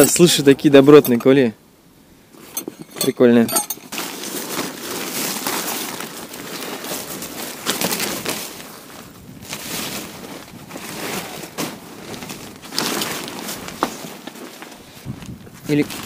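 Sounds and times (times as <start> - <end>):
nylon tent fabric rustling: 2.4 - 16.0.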